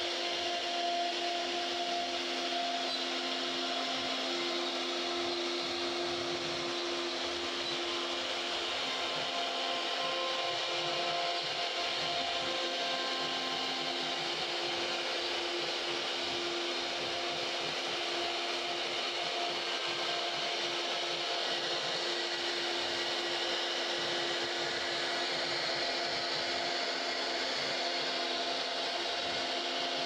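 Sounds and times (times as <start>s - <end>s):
router cutting wood: 0.0s - 30.0s.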